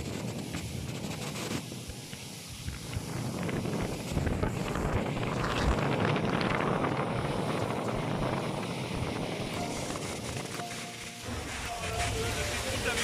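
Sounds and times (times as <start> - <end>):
motorboat running noise: 0.0 - 13.0
wind rumbling on microphone: 0.0 - 13.0.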